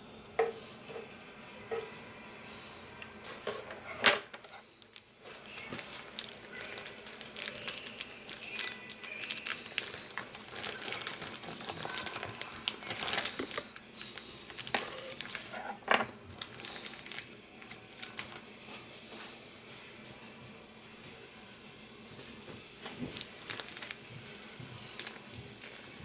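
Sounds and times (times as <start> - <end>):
bacon sizzling in a pan: 0.0 - 19.1, 19.7 - 26.0.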